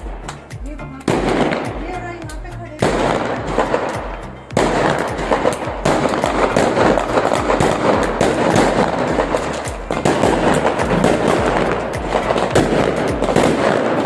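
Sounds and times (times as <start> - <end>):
fireworks crackling: 0.0 - 14.0
music with repeating bass line: 0.0 - 14.0.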